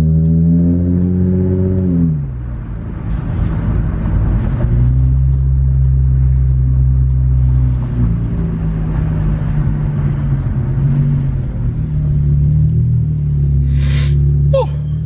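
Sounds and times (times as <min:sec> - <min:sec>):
car engine driving: 0:00.0 - 0:15.0
road noise: 0:00.0 - 0:15.0.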